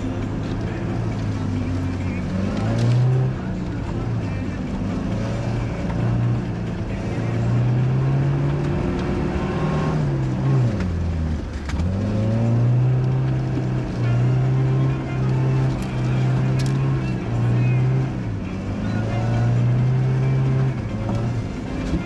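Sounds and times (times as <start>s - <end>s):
engine revving under load: 0.7s - 22.0s.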